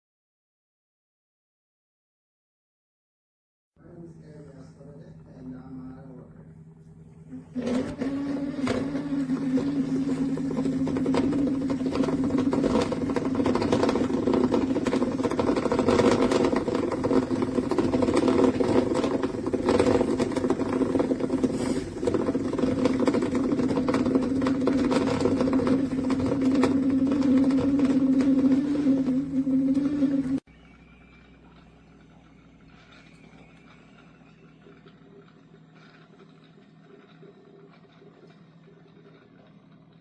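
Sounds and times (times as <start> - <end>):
coffee maker humming: 3.8 - 40.0.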